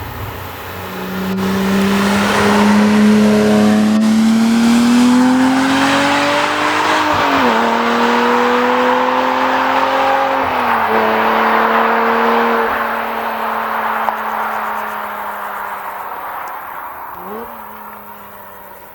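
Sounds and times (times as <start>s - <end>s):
car engine gear changes: 0.0s - 18.9s.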